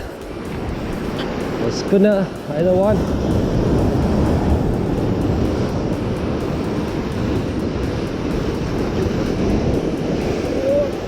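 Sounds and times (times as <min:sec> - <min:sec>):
surf: 0:00.0 - 0:11.0
wind: 0:00.0 - 0:11.0
wind rumbling on microphone: 0:00.0 - 0:11.0.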